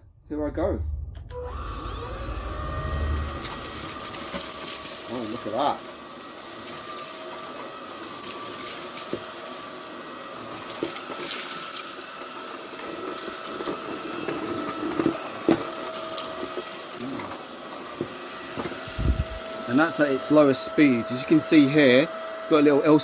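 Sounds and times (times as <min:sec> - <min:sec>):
vacuum motor whine: 0:01.2 - 0:23.0.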